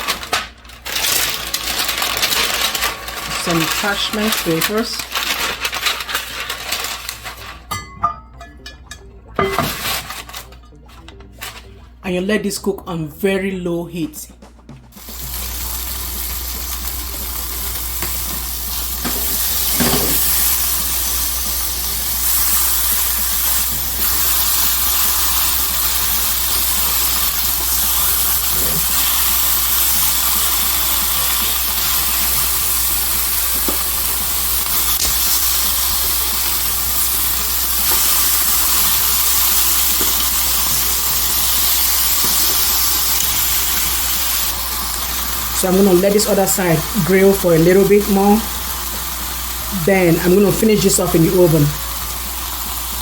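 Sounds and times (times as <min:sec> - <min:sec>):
chicken sizzling in a hot pan: 0:00.0 - 0:07.6, 0:15.0 - 0:53.0.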